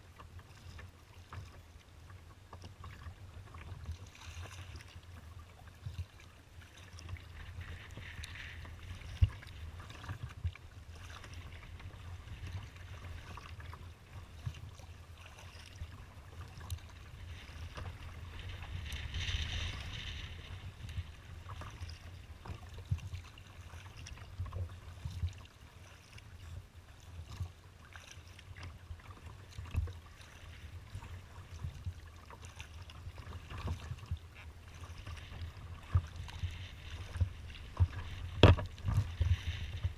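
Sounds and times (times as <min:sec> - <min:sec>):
water slapping against kayak hull: 0:02.6 - 0:26.2, 0:27.2 - 0:39.9
wind rumble on microphone: 0:02.9 - 0:27.6, 0:28.5 - 0:39.9.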